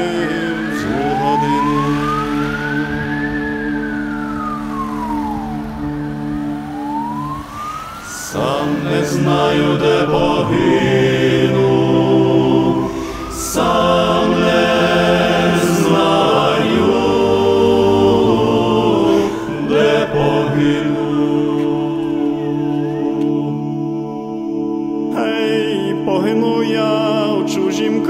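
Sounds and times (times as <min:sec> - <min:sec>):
siren wailing: 0:00.0 - 0:26.2
mournful song with singing voices: 0:00.0 - 0:28.0.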